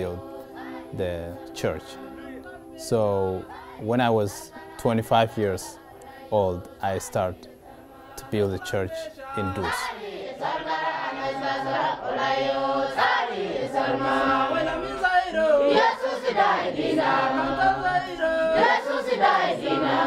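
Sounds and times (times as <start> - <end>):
congregation singing: 0.0 - 20.0.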